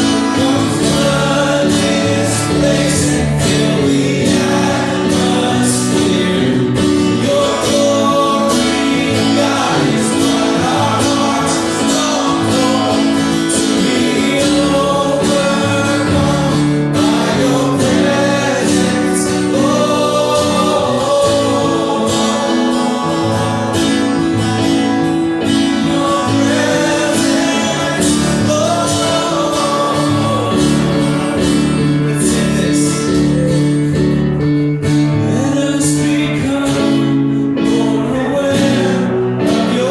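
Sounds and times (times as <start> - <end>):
congregation singing worship song: 0.0 - 39.9.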